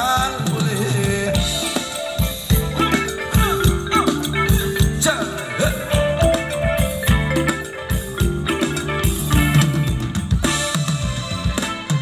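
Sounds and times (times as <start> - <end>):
live band dance music: 0.0 - 12.0
steady drum beat: 0.0 - 12.0.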